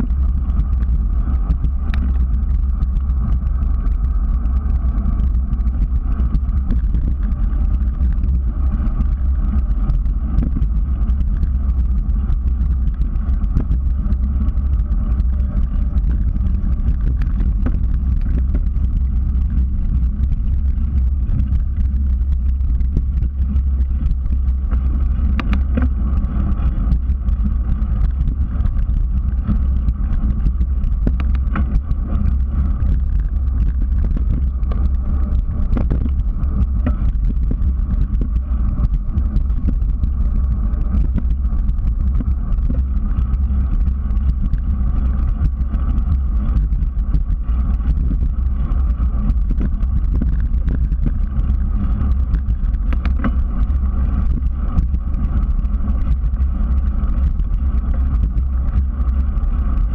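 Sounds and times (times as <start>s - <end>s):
bicycle tyres on pavement: 0.0s - 59.9s
wind buffeting camera: 0.0s - 59.9s
sharp ticks: 0.2s - 59.8s.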